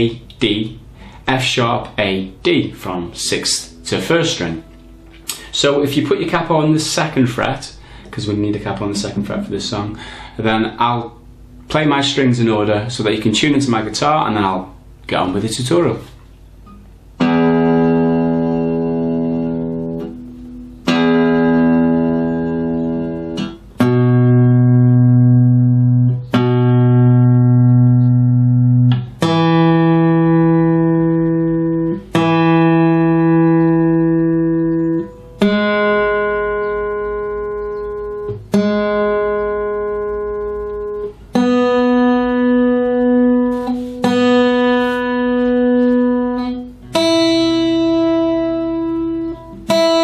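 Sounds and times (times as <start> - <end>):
guitar strings plucked for tuning: 0.0 - 50.0.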